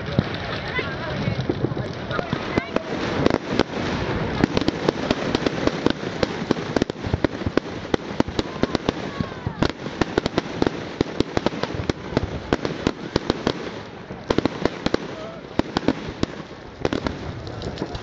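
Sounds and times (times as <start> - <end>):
firework bangs and crackles: 0.0 - 18.0.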